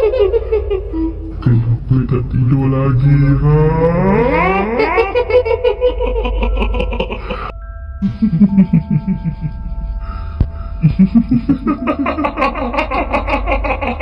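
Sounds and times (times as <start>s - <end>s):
cackling ghostly voice: 0.0s - 14.0s
steady droning tones: 0.0s - 14.0s.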